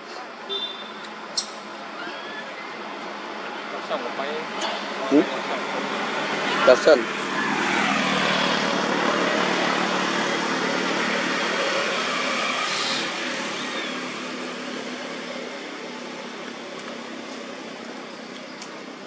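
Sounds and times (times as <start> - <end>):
road vehicle passing: 1.1 - 19.0.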